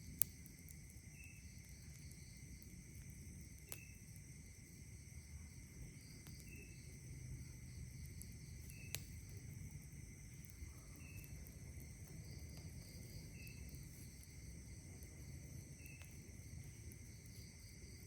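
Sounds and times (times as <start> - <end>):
campfire pops: 0.0 - 4.9, 5.7 - 18.0
night insects chorus: 0.0 - 18.0.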